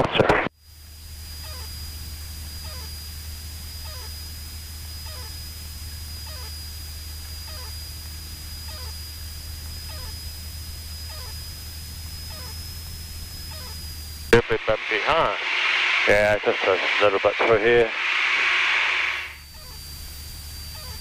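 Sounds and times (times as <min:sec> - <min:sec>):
aircraft engine and propeller drone: 0:00.6 - 0:21.0.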